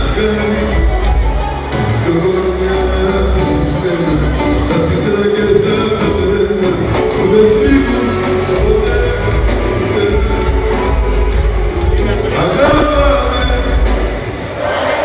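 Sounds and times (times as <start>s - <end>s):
person singing: 0.0s - 14.0s
live band playing: 0.0s - 15.0s
steady drum beat: 0.0s - 15.0s.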